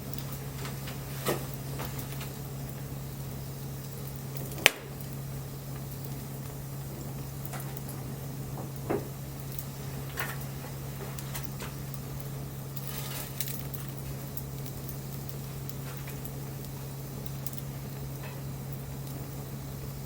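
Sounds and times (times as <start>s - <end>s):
campfire crackling and popping: 0.0s - 20.0s
steady low hum: 0.0s - 20.0s.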